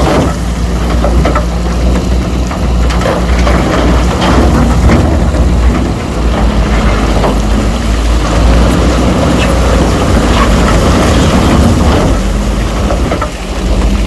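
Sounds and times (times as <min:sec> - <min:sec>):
clanks and knocks of rock: 0:00.0 - 0:14.0
heavy diesel machinery humming: 0:00.0 - 0:14.0.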